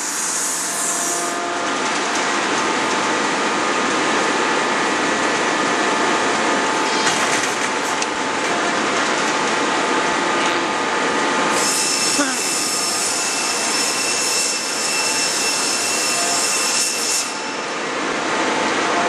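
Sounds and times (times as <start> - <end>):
machinery whining tones: 0.0 - 19.0.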